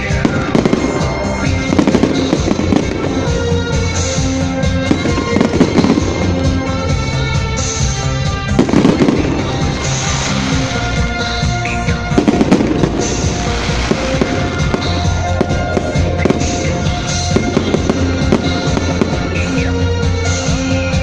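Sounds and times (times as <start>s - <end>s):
fireworks bangs and crackles: 0.0s - 21.0s
loud music with bass: 0.0s - 21.0s.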